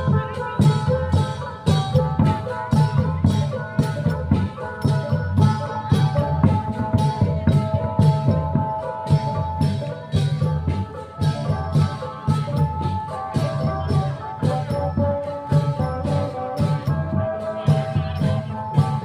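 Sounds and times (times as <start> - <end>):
drums beating steadily: 0.0 - 19.0
rattling small percussion: 0.0 - 19.0.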